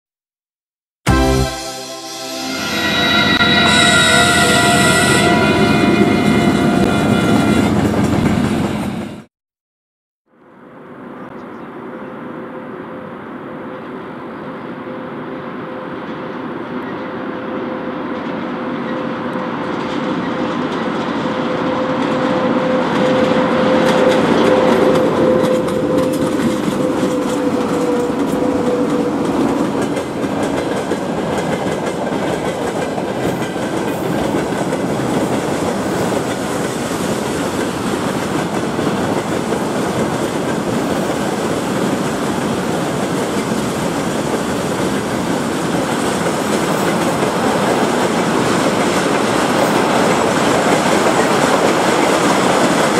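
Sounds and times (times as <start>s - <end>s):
electric locomotive hum: 1.1s - 9.1s, 11.2s - 52.9s.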